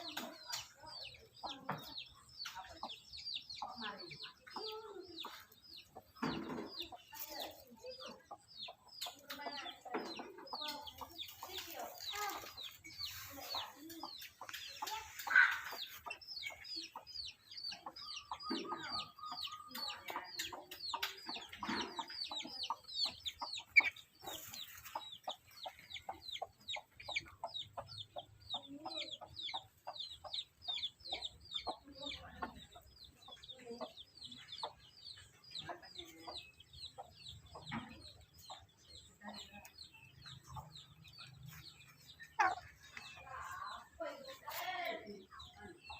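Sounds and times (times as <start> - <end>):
bird clucking calls: 0.0 - 45.9.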